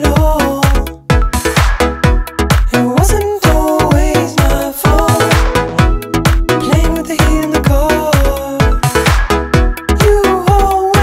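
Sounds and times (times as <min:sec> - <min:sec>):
upbeat music with kick drum: 0:00.0 - 0:11.0.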